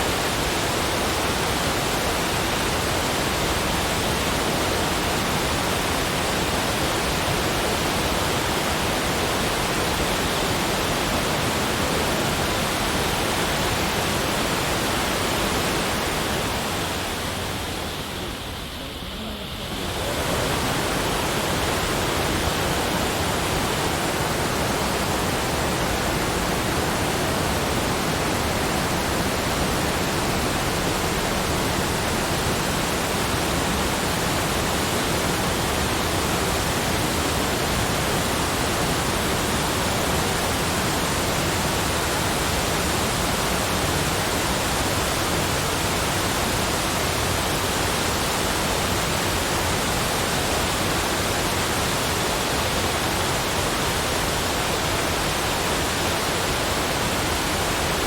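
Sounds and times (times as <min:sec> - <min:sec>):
steady broadband rushing noise: 0:00.0 - 0:58.0.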